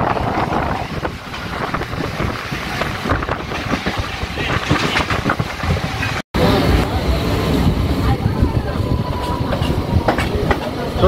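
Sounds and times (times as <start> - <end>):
train rumbling and rattling: 0.0 - 11.0.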